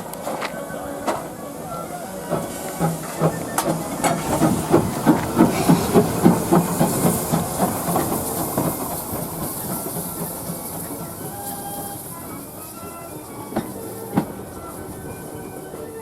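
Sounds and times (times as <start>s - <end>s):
hiss of steam: 0.0s - 16.0s
steam locomotive beats: 0.0s - 16.0s.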